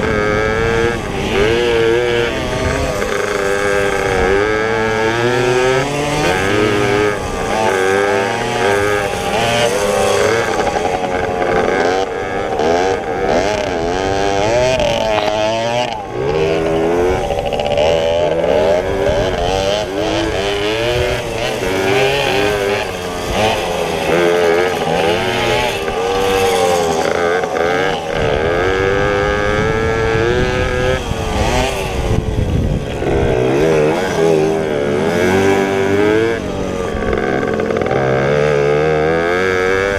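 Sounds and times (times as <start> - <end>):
pit bike engines revving: 0.0 - 39.9.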